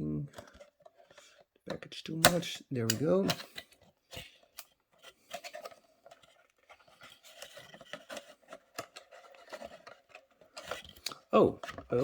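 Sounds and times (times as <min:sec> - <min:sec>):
packaging rustling and clicking: 0:00.3 - 0:12.0.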